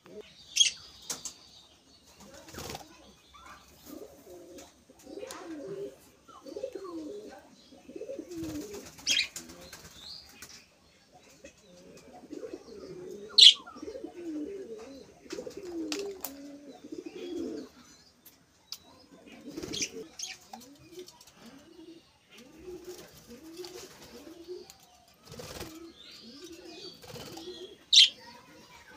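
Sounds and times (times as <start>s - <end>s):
pigeons cooing: 3.5s - 9.9s, 11.2s - 18.2s, 18.8s - 28.9s.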